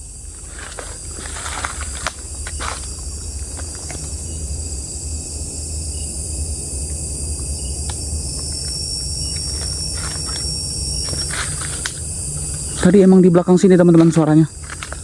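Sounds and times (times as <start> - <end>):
low rumble: 0.0 - 15.0
night insects chorus: 0.0 - 15.0.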